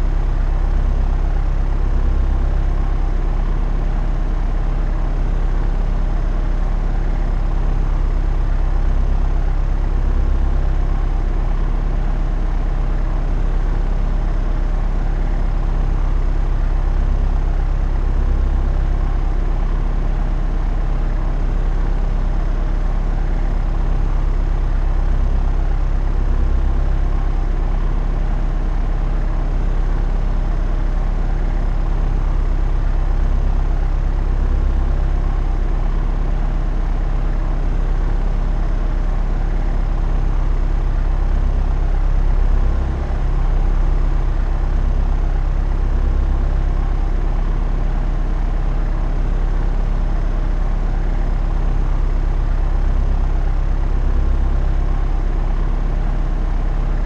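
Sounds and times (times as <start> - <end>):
propeller aeroplane droning: 0.0 - 57.0.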